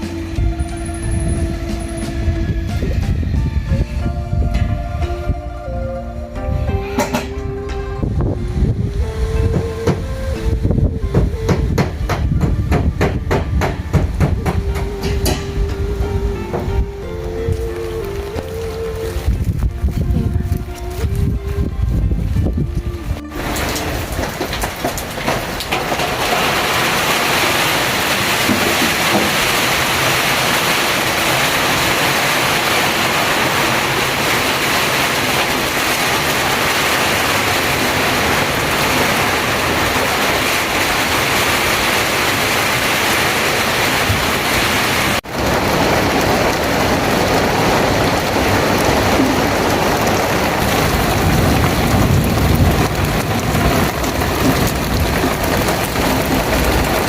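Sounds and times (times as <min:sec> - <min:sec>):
heavy rain falling: 0:00.0 - 0:05.8, 0:06.6 - 0:57.0.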